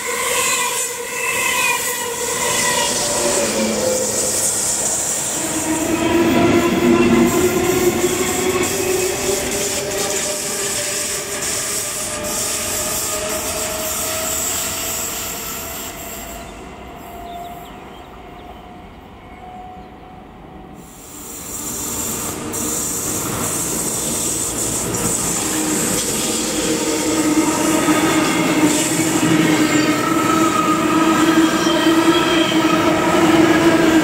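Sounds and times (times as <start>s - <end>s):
freight train wheels on rails: 0.0s - 34.0s.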